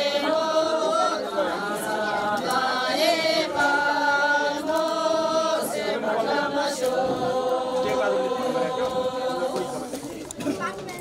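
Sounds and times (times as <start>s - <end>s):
group of voices singing: 0.0s - 10.7s.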